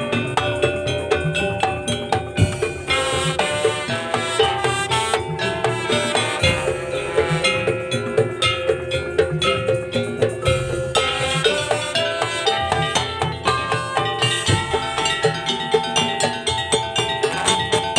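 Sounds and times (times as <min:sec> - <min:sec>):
percussion ensemble playing: 0:00.0 - 0:17.9.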